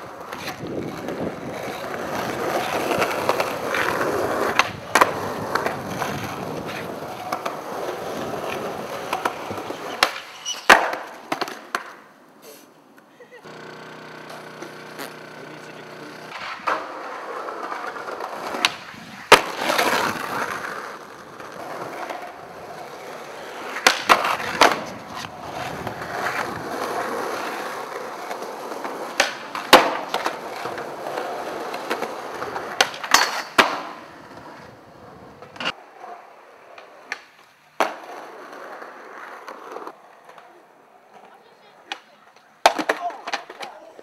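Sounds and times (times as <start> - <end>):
skateboard clacking on ground: 0.0 - 12.2, 16.3 - 44.0
skateboard wheels rolling on concrete: 0.0 - 44.0.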